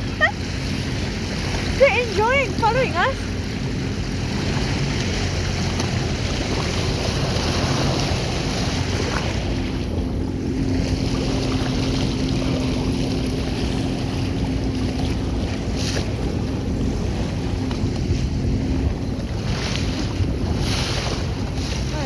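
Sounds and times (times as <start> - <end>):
jet ski engine running: 0.0 - 22.0
water rushing: 0.0 - 22.0
wind buffeting microphone: 0.0 - 22.0.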